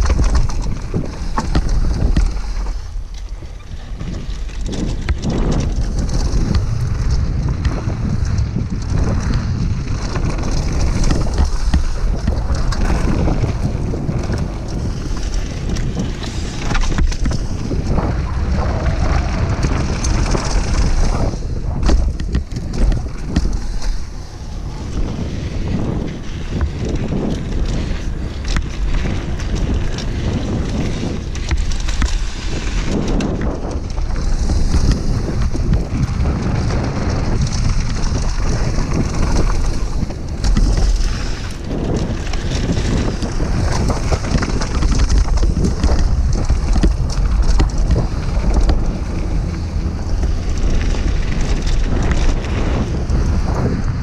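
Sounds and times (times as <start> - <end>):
bike rattling: 0.0 - 54.0
low rumble: 0.0 - 54.0
tyres crunching over gravel: 0.0 - 54.0
wind buffeting microphone: 0.0 - 54.0.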